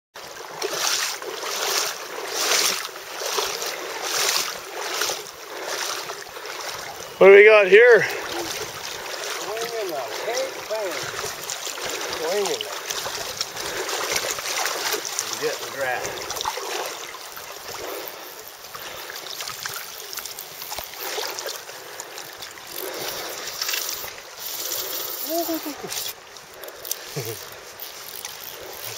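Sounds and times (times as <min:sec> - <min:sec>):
river water rushing: 0:00.2 - 0:28.9.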